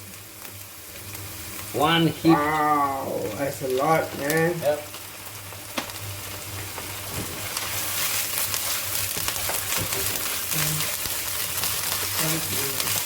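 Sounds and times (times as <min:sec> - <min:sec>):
oil crackling: 0:00.0 - 0:13.0
paste sizzling in hot oil: 0:00.0 - 0:13.0.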